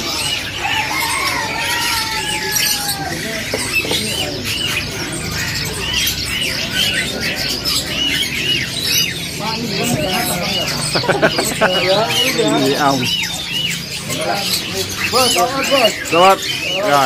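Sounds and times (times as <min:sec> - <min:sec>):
caged songbirds chirping: 0:00.0 - 0:17.0.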